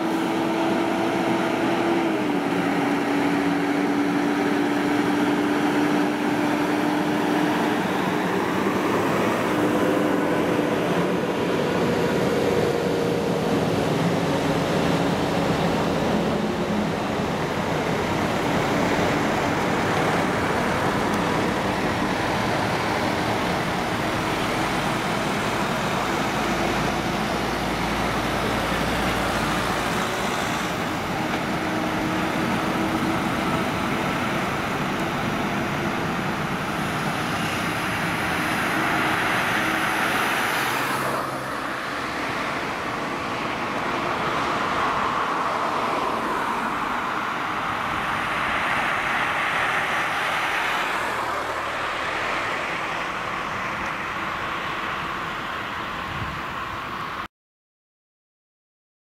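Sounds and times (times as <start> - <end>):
passing traffic: 0.0 - 57.3
truck engine and tyre noise: 0.0 - 57.3.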